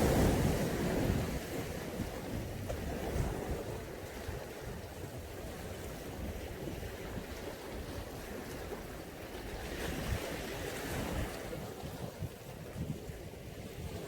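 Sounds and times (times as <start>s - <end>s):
sea waves washing onto shore: 0.0s - 14.0s
wind rumble on microphone: 0.0s - 14.0s.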